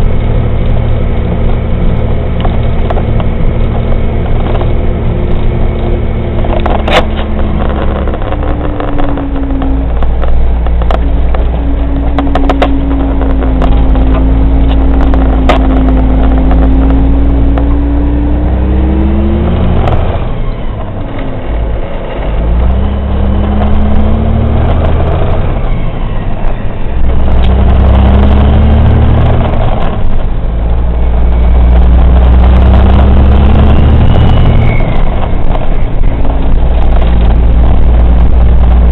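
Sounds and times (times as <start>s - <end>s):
truck diesel engine shifting gears: 0.0s - 38.9s.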